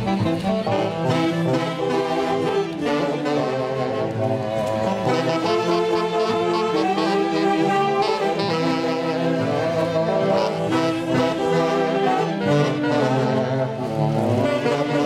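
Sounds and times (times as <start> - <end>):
band with saxophone melody: 0.0 - 15.0.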